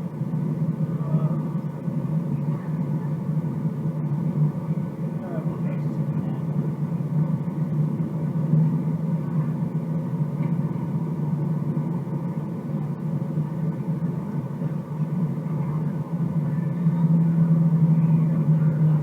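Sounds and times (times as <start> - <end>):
airplane cabin drone: 0.0 - 19.0.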